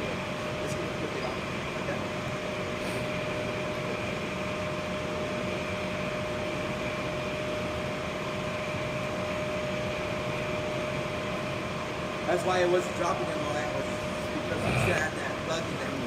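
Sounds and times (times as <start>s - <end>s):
constant hum-like tone: 0.0s - 16.0s
furnace fans whirring: 0.0s - 16.0s.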